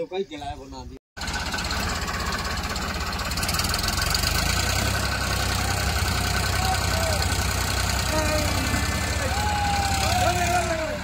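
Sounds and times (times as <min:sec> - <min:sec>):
tractor diesel engine running: 0:01.2 - 0:11.0.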